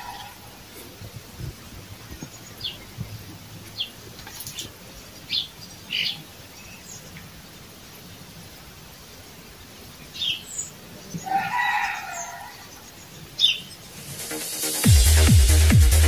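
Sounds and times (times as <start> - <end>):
faint steady background noise: 0.0 - 14.5
birds chirping: 0.0 - 14.9.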